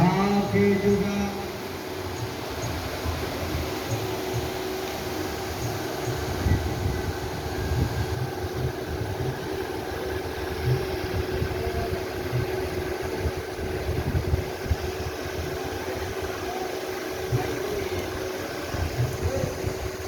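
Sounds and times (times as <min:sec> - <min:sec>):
motor hum: 0:00.0 - 0:20.0.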